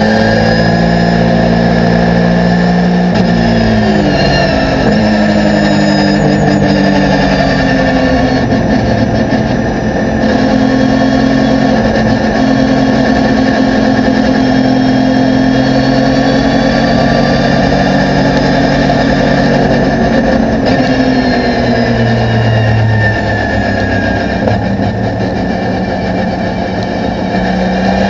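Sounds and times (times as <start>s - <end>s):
race car engine from cockpit: 0.0s - 28.0s.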